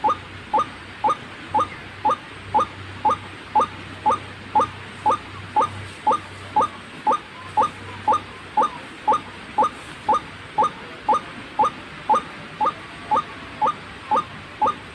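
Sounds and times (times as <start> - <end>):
waterhen calling: 0.0 - 14.9.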